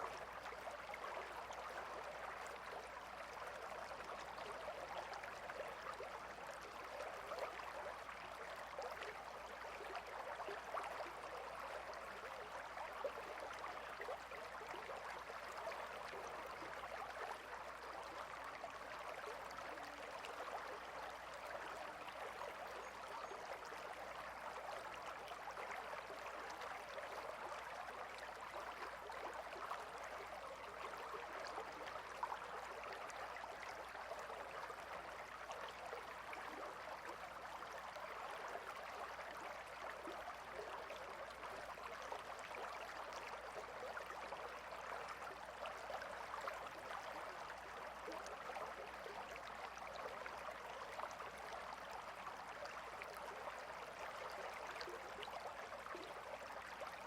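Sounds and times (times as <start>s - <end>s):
gentle river babbling: 0.0s - 57.0s.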